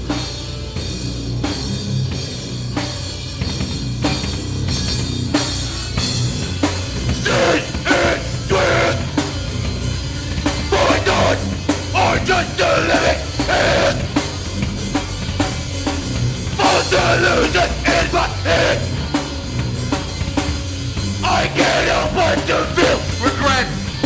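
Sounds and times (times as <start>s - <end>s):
drum kit steady beat: 0.0s - 24.0s
live rock band playing: 0.0s - 24.0s.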